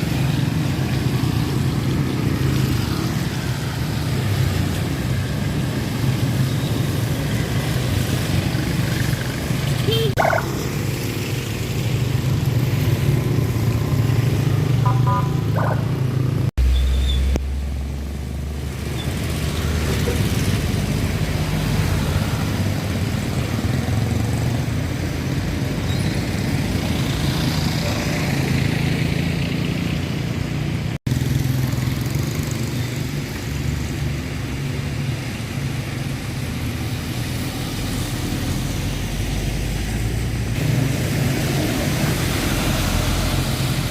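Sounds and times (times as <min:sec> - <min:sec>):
motorcycles and cars passing: 0:00.0 - 0:43.9.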